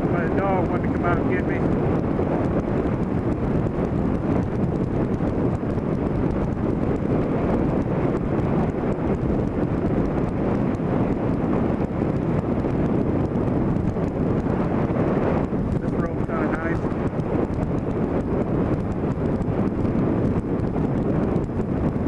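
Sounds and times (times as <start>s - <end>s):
vehicle road rumble: 0.0s - 22.0s
wind buffeting microphone: 0.0s - 22.0s.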